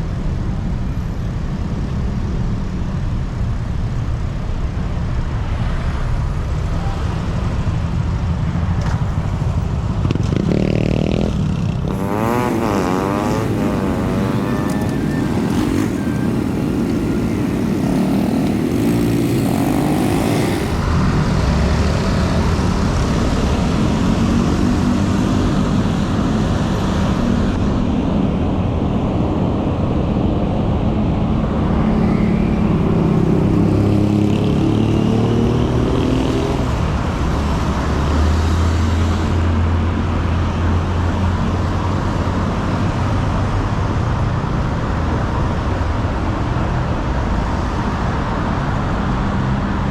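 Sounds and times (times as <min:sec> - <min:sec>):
cars and motorbikes passing: 0:00.0 - 0:49.9
road noise rushing: 0:00.0 - 0:49.9.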